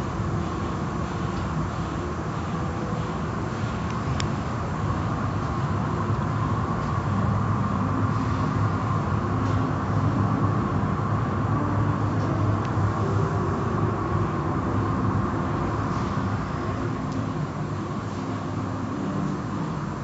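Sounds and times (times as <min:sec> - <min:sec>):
car wash machinery din: 0:00.0 - 0:20.0.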